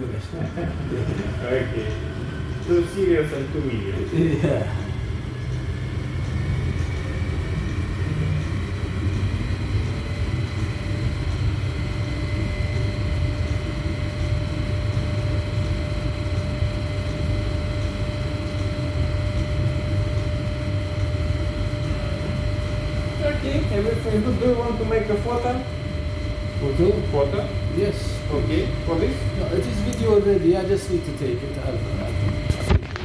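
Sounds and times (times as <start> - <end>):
machine humming and droning: 0.0 - 33.0
thin steady whine: 0.0 - 33.0.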